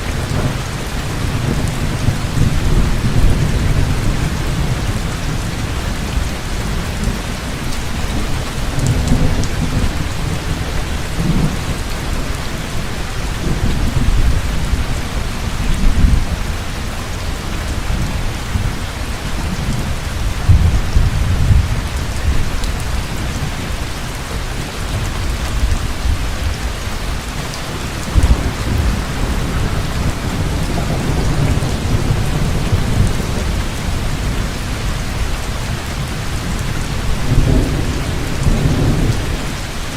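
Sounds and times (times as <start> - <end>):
thunder rumbling: 0.0 - 24.0, 24.6 - 39.9
heavy rain falling: 0.0 - 39.9.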